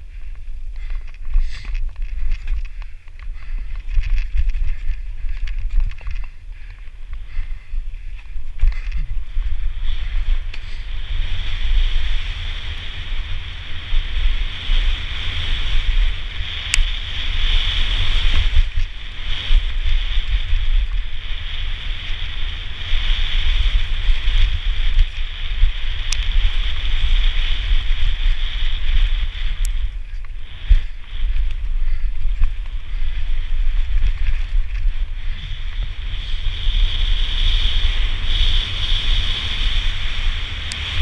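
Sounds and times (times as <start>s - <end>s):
bike rattling on dirt trail: 0.0s - 41.0s
wind buffeting microphone: 0.0s - 41.0s.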